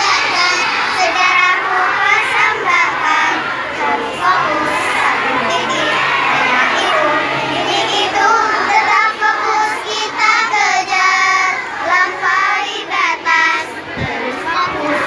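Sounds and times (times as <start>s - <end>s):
girls singing a cheer: 0.0s - 15.0s.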